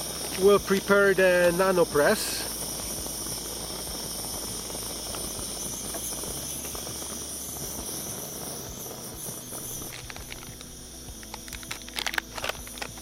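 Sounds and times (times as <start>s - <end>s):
camp stove burner hissing: 0.0s - 13.0s.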